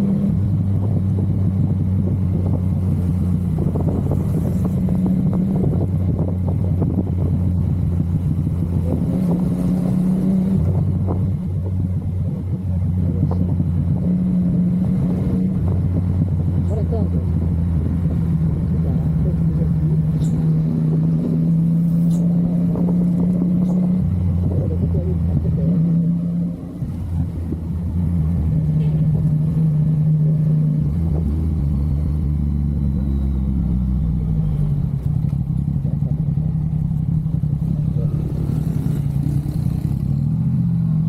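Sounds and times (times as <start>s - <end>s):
motorcycle engine while riding: 0.0s - 41.0s.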